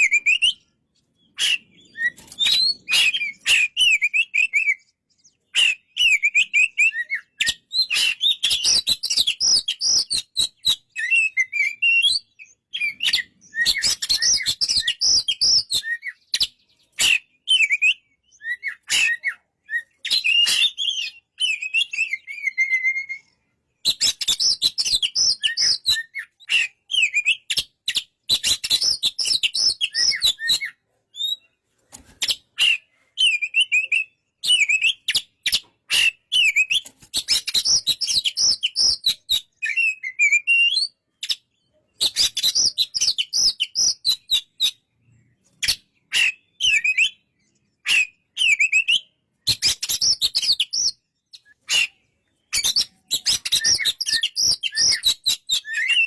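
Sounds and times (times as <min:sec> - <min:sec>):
bird singing whistled phrases: 0:00.0 - 0:31.5, 0:32.2 - 0:56.0.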